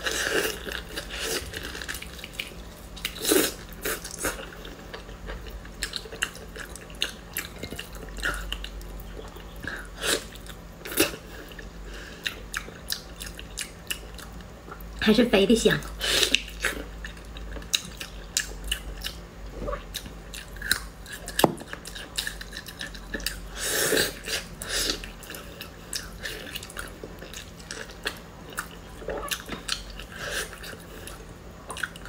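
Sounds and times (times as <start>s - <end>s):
chewing meat: 0.0s - 14.9s, 16.3s - 32.0s.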